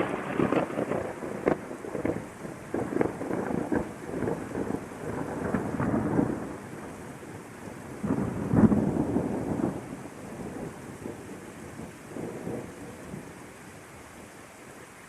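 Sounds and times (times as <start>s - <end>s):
rolling thunder: 0.0s - 13.4s
rain falling: 0.0s - 15.0s.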